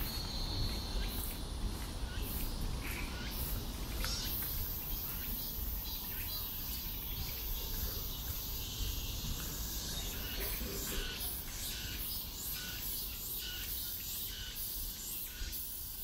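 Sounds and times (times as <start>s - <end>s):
insect chirps: 0.0s - 16.0s
insects buzzing: 0.0s - 16.0s.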